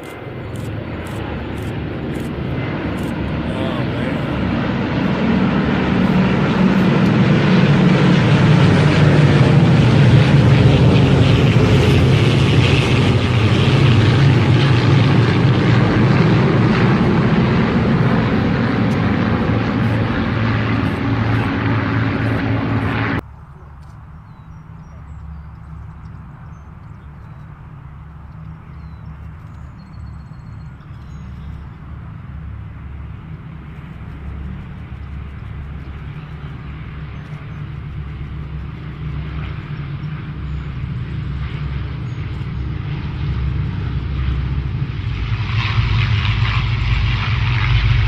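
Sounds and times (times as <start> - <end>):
airplane engines flying over: 0.0 - 48.0
low hum: 0.0 - 48.0.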